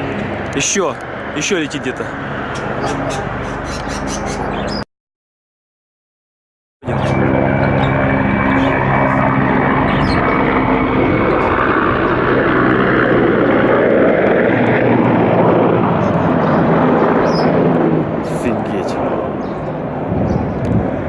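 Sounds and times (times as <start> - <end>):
helicopter rotor and turbine drone: 0.0 - 4.8, 6.8 - 21.0.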